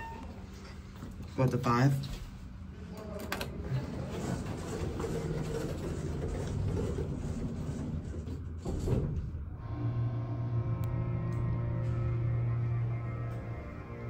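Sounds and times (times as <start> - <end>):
elevator mechanical rumble: 0.0 - 14.0.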